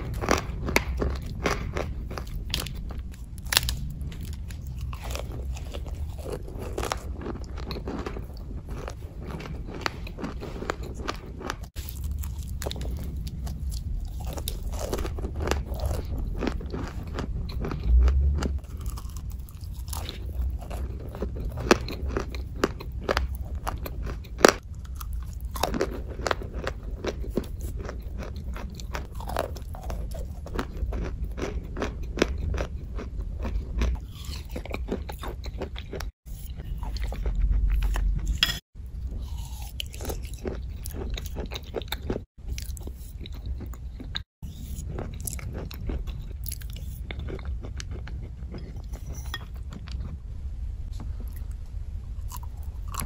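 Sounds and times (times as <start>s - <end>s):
crunchy chewing and biting: 0.0s - 50.2s, 51.0s - 53.0s
steady low rumble: 0.0s - 53.0s.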